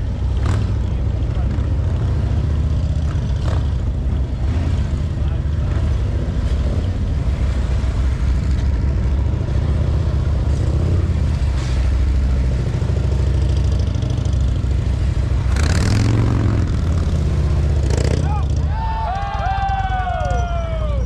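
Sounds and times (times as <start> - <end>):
motorcycle engine at low revs: 0.0 - 18.7.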